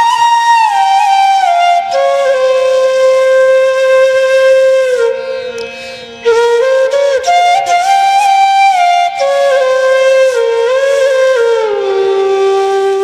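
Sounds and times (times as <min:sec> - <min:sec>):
solo flute melody: 0:00.0 - 0:13.0.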